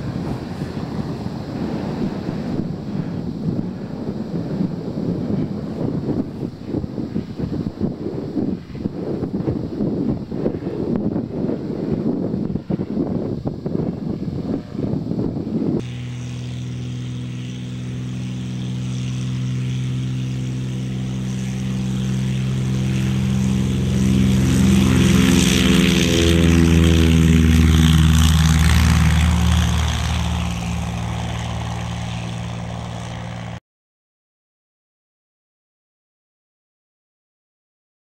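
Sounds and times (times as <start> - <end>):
propeller airplane engine: 0.0 - 33.6.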